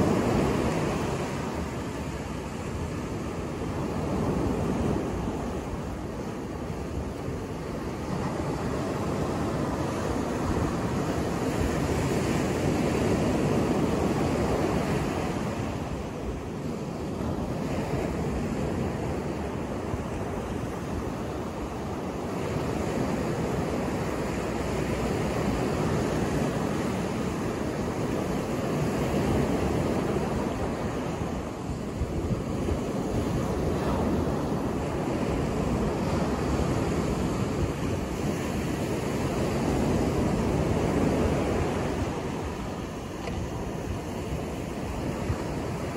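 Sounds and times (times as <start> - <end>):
ocean waves breaking on beach: 0.0 - 45.9.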